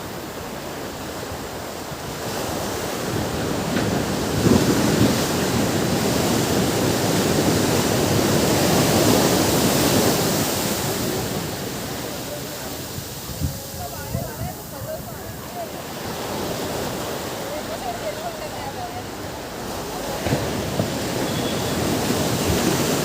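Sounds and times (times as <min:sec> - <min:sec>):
ocean waves washing onto beach: 0:00.0 - 0:23.0.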